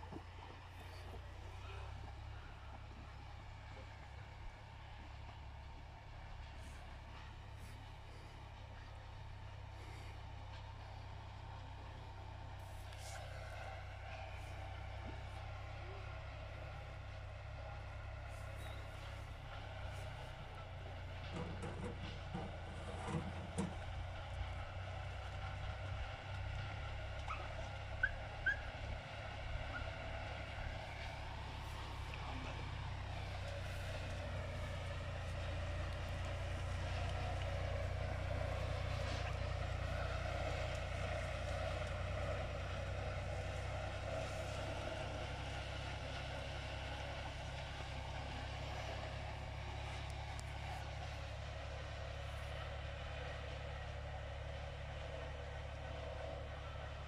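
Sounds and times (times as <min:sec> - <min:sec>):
distant engine drone: 0:00.0 - 0:57.0.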